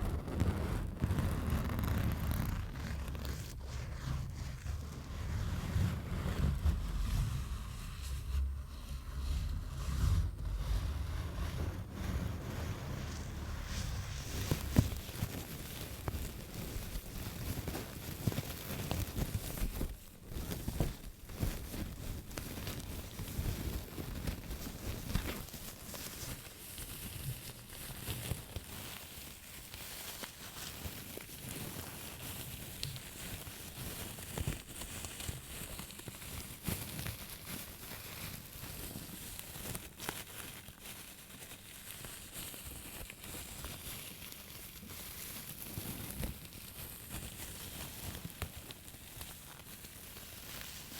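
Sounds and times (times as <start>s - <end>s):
object crinkling and scratching: 0.0s - 50.9s.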